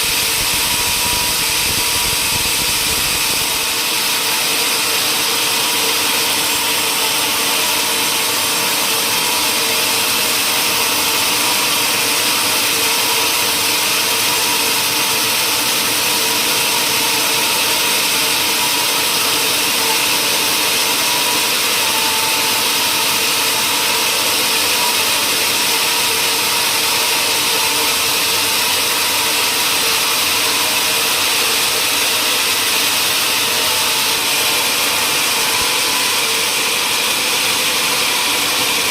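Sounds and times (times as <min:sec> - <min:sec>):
woodworking machinery running: 0:00.0 - 0:38.9.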